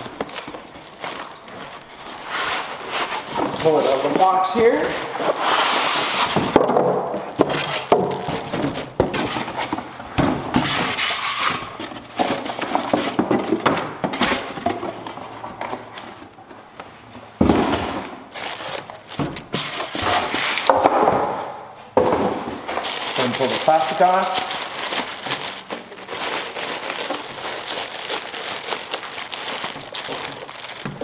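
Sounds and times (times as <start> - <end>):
styrofoam crackling: 0.0 - 15.2, 17.4 - 20.8, 22.3 - 31.0
cardboard and styrofoam rustling: 0.0 - 31.0.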